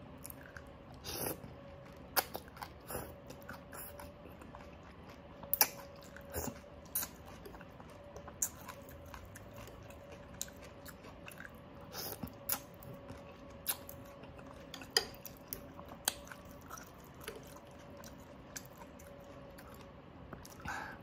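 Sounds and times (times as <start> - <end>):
faint steady hum: 0.0 - 21.0
person chewing: 0.2 - 20.9.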